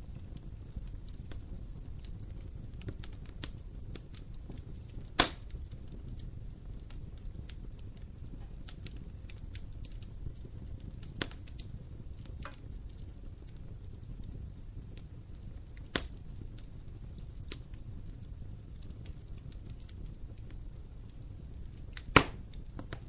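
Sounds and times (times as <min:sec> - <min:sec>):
burning wood popping: 0:00.0 - 0:23.0
low rumble of flames: 0:00.0 - 0:23.0
small fire crackles: 0:00.0 - 0:23.0.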